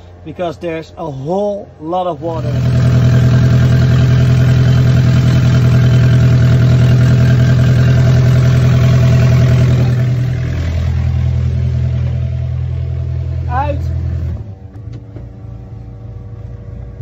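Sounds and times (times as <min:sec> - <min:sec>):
boat diesel engine running: 0:00.0 - 0:17.0.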